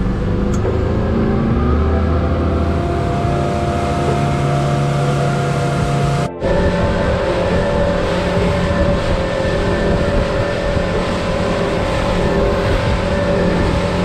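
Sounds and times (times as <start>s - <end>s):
outboard engine droning: 0.0s - 14.0s
rush of wind and water: 0.0s - 14.0s.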